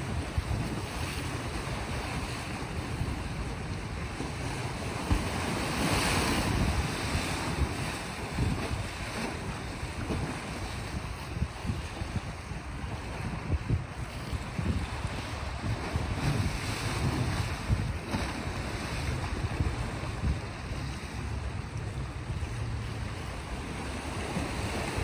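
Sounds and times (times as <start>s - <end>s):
waves washing on rocky shore: 0.0s - 25.0s
wind buffeting microphone: 0.0s - 25.0s.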